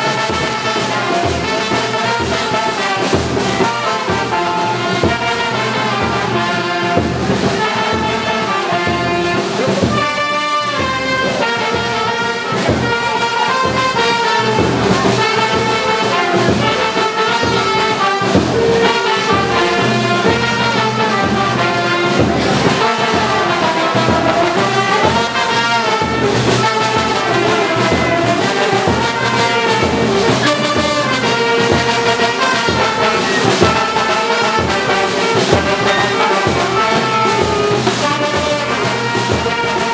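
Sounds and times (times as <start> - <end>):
brass instrumental music: 0.0 - 39.9.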